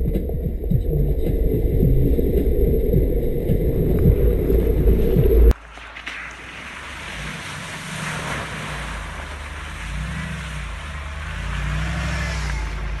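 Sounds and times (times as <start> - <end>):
car engine: 0.0 - 13.0
water splashing around wheels: 0.0 - 13.0.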